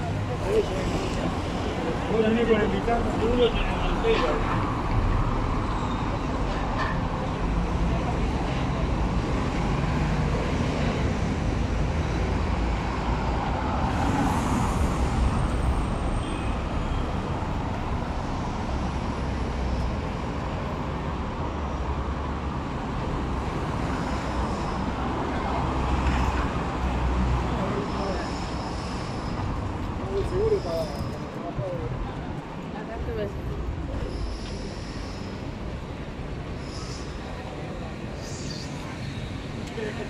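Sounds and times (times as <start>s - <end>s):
city street traffic: 0.0s - 40.0s.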